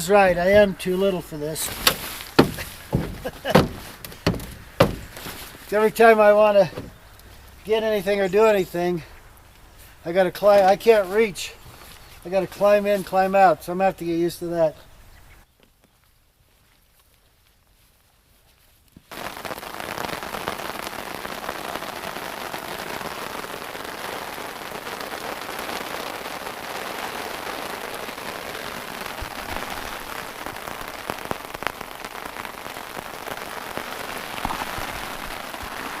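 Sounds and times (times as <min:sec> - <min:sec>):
steady rain falling: 0:00.0 - 0:14.8, 0:19.1 - 0:36.0.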